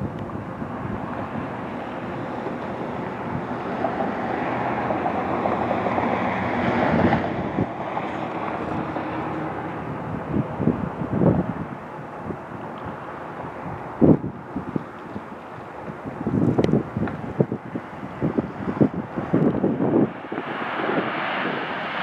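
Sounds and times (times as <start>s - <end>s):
jet engine rushing: 0.0s - 22.0s
wind buffeting microphone: 0.0s - 22.0s.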